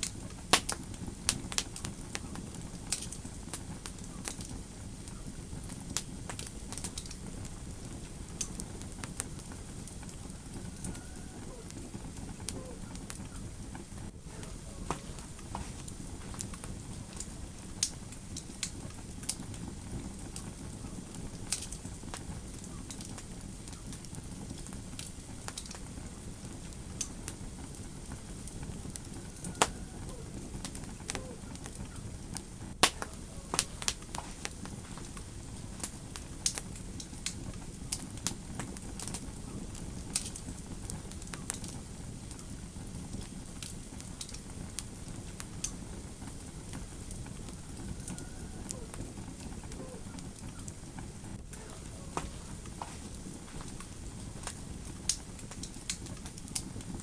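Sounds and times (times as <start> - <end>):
low rushing of flames: 0.0 - 57.0
wood fire crackling: 0.0 - 57.0.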